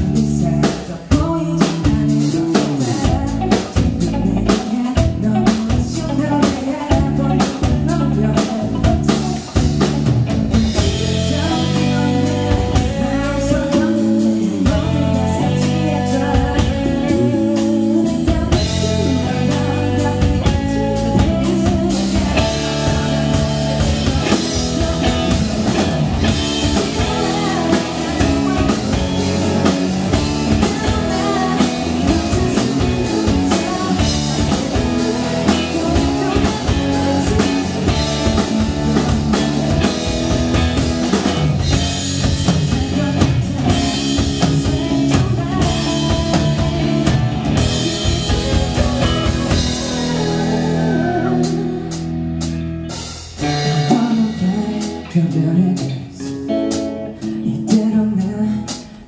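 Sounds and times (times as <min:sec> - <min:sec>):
drum kit: 0:00.0 - 0:59.0
guitar: 0:00.0 - 0:59.0
live rock band: 0:00.0 - 0:59.0
person singing: 0:00.0 - 0:59.0.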